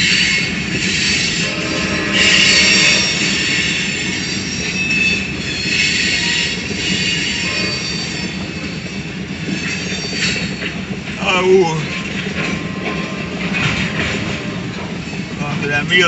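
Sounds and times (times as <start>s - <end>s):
train rumble: 0.0s - 16.0s
train wheels squealing on rails: 0.0s - 16.0s.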